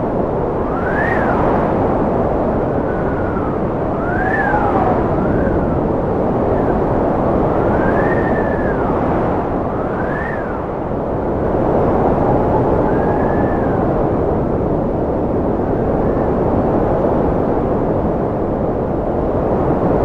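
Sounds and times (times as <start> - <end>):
strong wind howling: 0.0 - 20.0.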